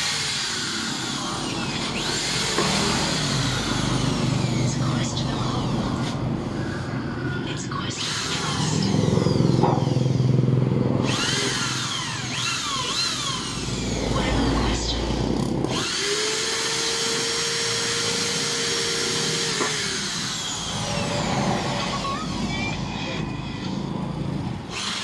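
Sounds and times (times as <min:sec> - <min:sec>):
electric drill whining: 0:00.0 - 0:07.3, 0:08.0 - 0:25.0.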